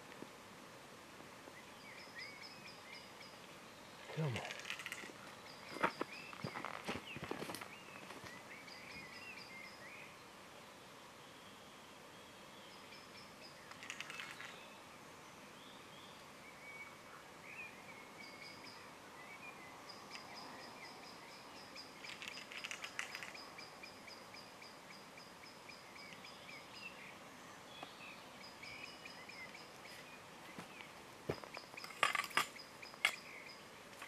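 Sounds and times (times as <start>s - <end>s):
birds chirping and warbling: 1.6s - 10.3s, 12.2s - 34.0s.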